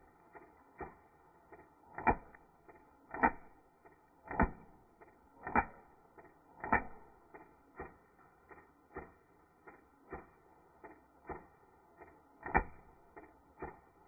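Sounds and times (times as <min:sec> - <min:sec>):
slowed airsoft shots: 0:00.0 - 0:14.0.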